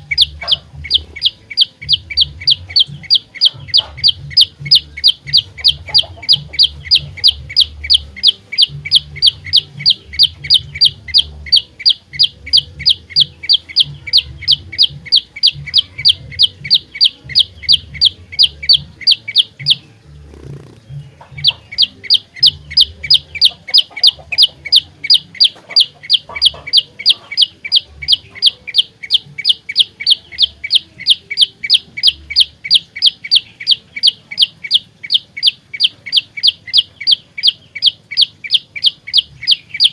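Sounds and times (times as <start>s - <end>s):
bird singing rapid piercing notes: 0.0s - 39.9s.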